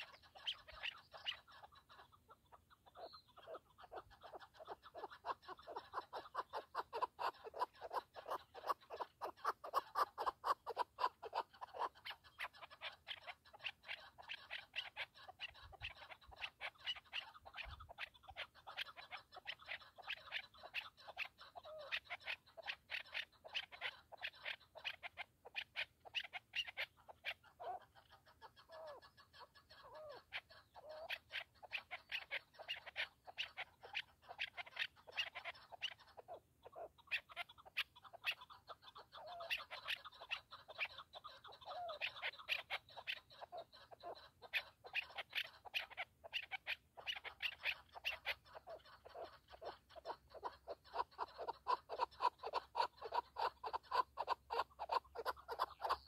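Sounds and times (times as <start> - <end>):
partridge clucking calls: 0.0 - 56.0.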